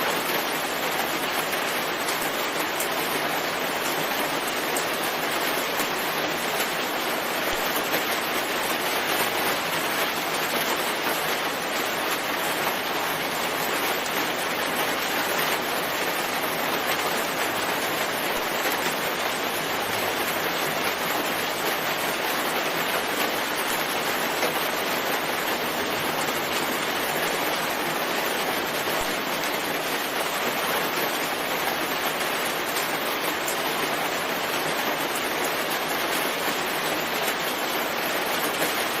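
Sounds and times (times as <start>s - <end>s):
steady rainfall: 0.0s - 39.0s.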